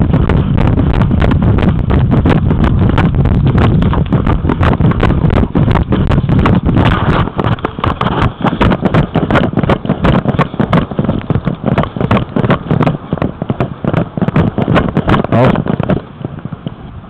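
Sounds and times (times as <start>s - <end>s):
microphone handling knocks: 0.0s - 16.7s
wind buffeting rumble: 0.0s - 17.0s.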